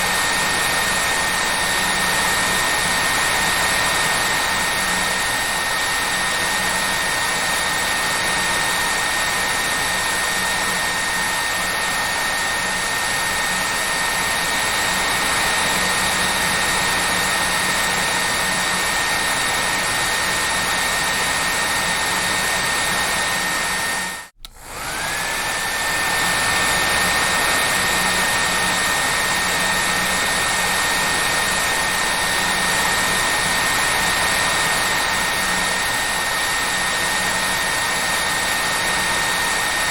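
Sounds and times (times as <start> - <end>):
hair dryer blowing with whine: 0.0 - 39.9.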